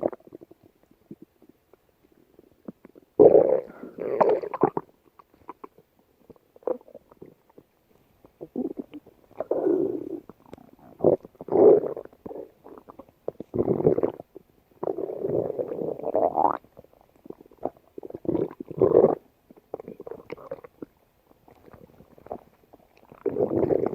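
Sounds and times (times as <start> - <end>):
stomach growling: 0.0 - 23.9.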